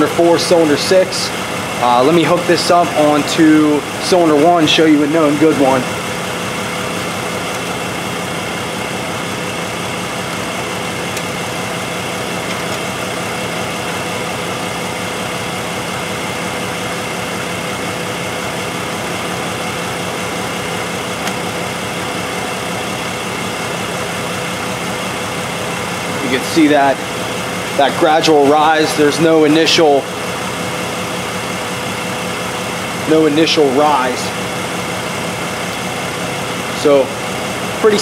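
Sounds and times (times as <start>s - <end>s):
misfiring engine idling: 0.0s - 38.0s.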